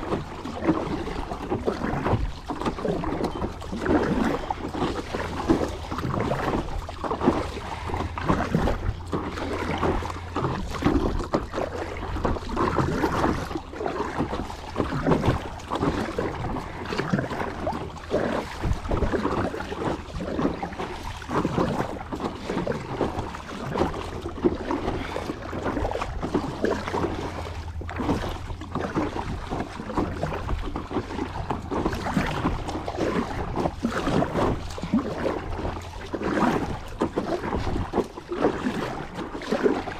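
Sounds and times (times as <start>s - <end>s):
water splashing around kayak: 0.0s - 39.9s
wind rumbling on microphone: 0.0s - 39.9s.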